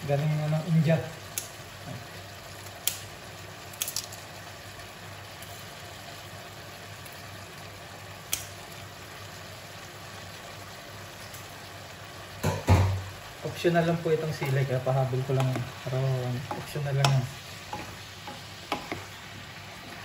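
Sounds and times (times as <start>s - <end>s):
stir-fry sizzling in a wok: 0.0s - 20.0s.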